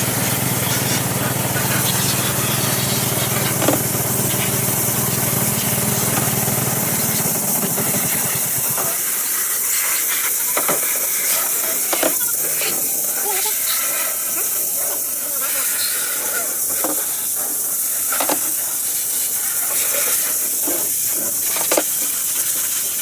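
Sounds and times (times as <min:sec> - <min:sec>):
motor humming: 0:00.0 - 0:22.0
loud steady hiss: 0:00.0 - 0:23.0.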